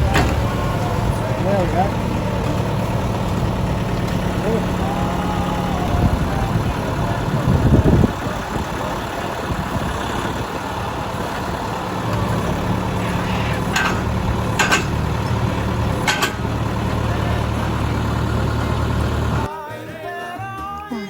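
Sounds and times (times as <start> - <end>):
engine running at low revs: 0.0 - 19.5.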